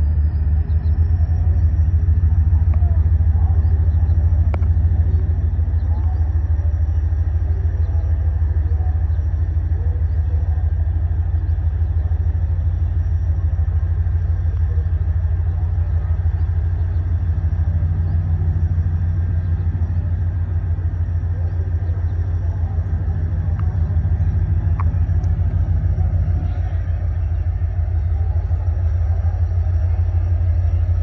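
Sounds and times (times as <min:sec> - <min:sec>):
train diesel engine throbbing: 0:00.0 - 0:31.0.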